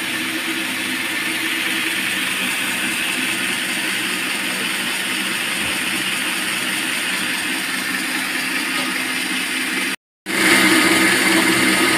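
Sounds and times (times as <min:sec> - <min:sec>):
band sawmill running: 0:00.0 - 0:11.9.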